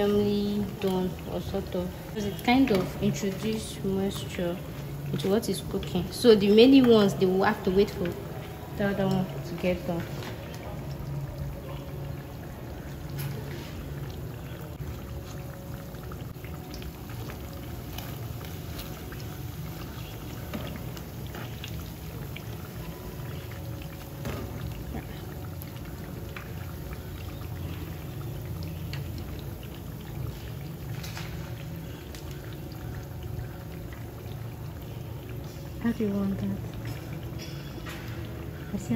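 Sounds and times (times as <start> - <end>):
fritters deep-frying in hot oil: 0.0 - 38.9
low steady hum: 0.0 - 38.9.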